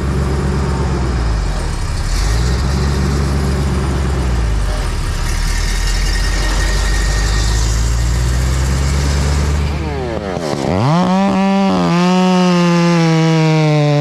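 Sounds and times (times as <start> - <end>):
large engine running steadily: 0.0 - 14.0.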